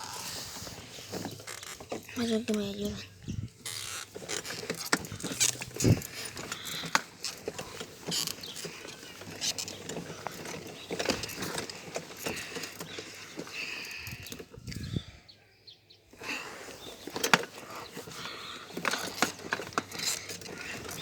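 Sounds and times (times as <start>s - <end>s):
bicycle rattling and clicking: 0.0s - 15.1s, 16.2s - 21.0s.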